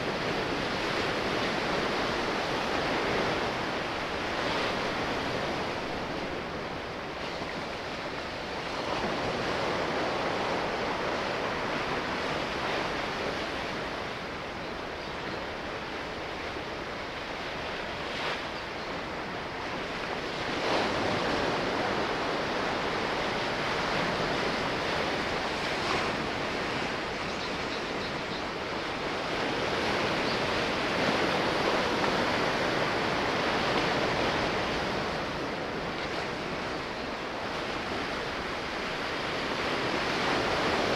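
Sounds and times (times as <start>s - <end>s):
sea waves washing: 0.0s - 40.9s.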